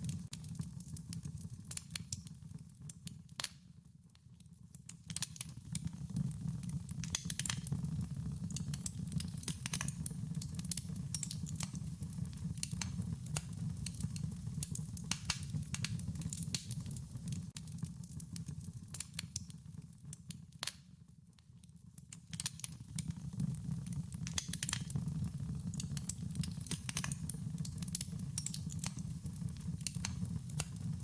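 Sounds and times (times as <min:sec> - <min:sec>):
campfire crackling and popping: 0:00.0 - 0:03.6, 0:04.7 - 0:20.9, 0:22.0 - 0:31.0.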